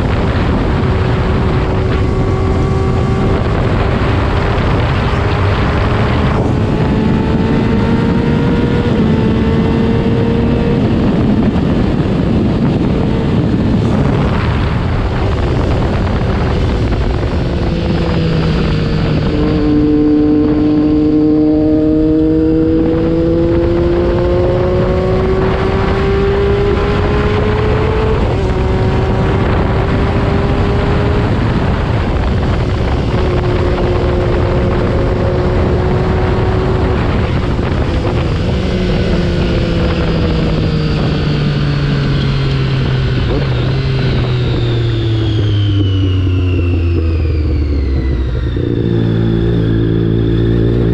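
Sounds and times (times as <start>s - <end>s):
motorcycle engine revving through gears: 0.0s - 50.9s
wind blast on microphone: 0.0s - 50.9s.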